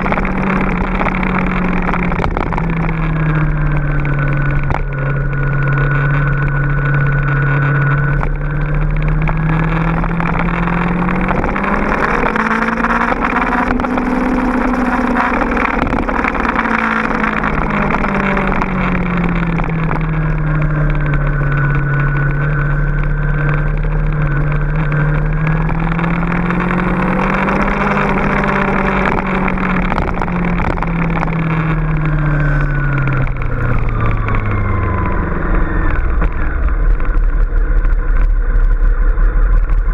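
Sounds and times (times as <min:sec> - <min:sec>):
motorcycle engine: 0:00.0 - 0:39.9
wind rush: 0:00.0 - 0:39.9.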